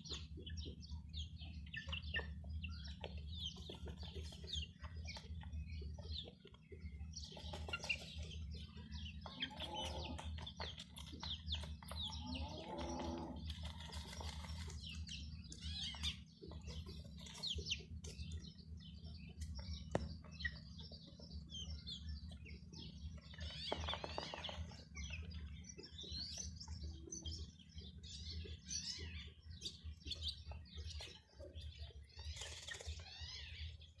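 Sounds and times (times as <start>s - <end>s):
chicks peeping: 0.0s - 34.0s
steady low hum: 0.0s - 34.0s.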